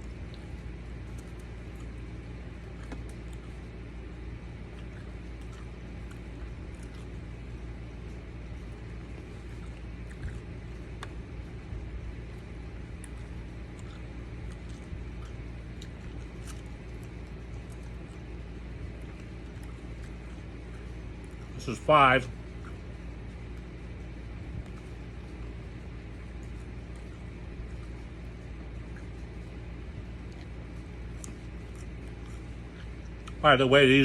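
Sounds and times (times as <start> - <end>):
low motor-like hum: 0.0 - 34.0
man chewing with faint clicks: 0.0 - 34.0.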